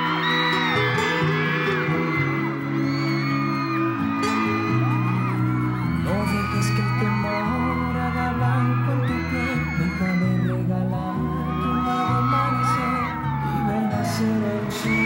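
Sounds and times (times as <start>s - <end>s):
acoustic guitar: 0.0s - 15.0s
audience whooping: 0.0s - 15.0s
bass line: 0.0s - 15.0s
live pop band playing: 0.0s - 15.0s.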